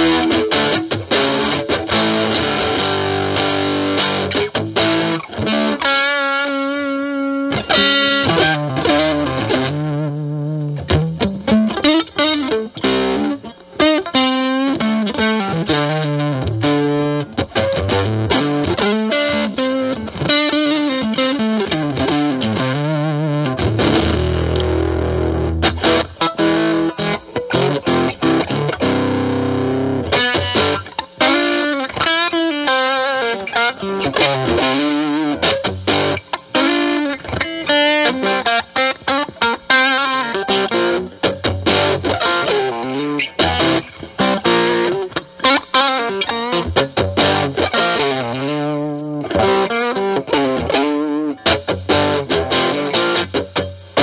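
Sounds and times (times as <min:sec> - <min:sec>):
fuzz electric guitar lead: 0:00.0 - 0:54.0.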